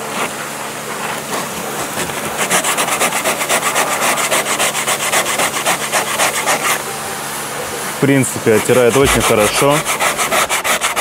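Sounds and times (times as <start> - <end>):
sandpaper scraping plastic: 0.0 - 6.8, 8.4 - 11.0.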